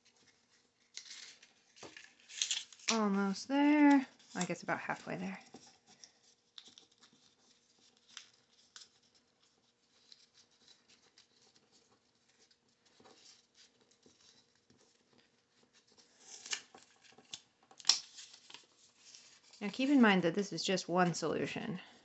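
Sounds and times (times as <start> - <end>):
paper rustling being rolled: 0.0 - 19.8.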